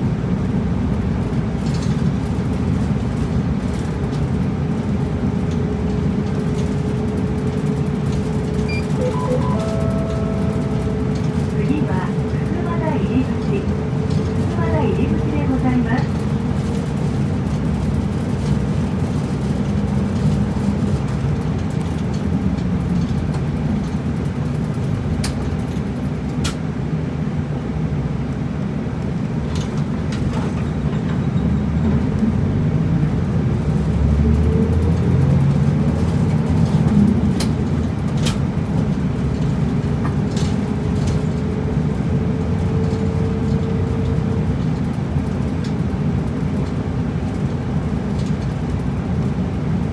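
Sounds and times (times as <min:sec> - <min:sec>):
bus engine and road noise: 0:00.0 - 0:49.9.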